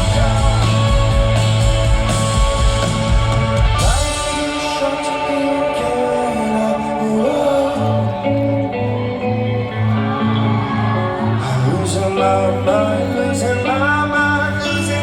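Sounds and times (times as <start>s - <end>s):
pulsing bass line: 0.0s - 13.1s
person singing: 0.0s - 15.0s
rock band playing live: 0.0s - 15.0s.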